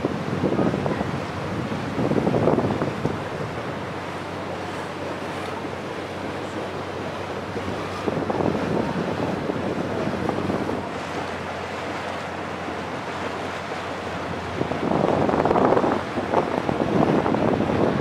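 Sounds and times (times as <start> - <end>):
boat engine low hum: 0.0 - 18.0
rushing lake water: 0.0 - 18.0
wind buffeting microphone: 0.0 - 18.0.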